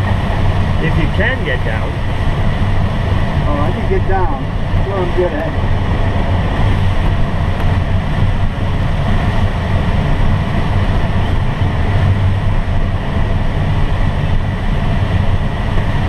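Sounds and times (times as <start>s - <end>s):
airflow rushing over cockpit: 0.0s - 16.0s.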